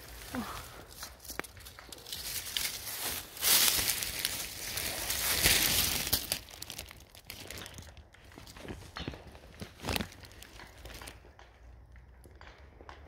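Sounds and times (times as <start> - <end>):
plastic sheeting crinkling: 0.0 - 11.2.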